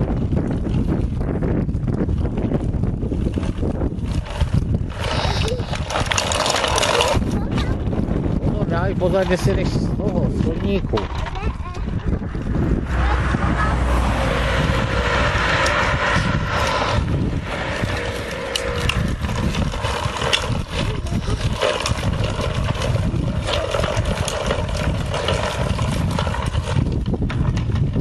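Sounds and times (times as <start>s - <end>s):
plastic wheels rattling on concrete: 0.0s - 13.0s, 14.0s - 28.0s.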